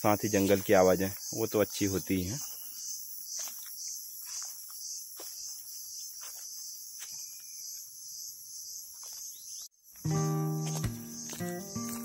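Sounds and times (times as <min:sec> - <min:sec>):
chorus of forest insects: 0:00.0 - 0:12.0.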